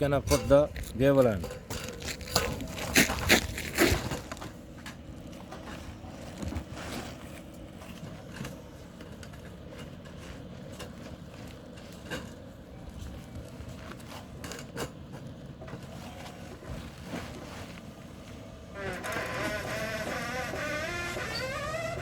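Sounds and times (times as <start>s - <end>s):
metal scraping and crinkling: 0.0s - 22.0s.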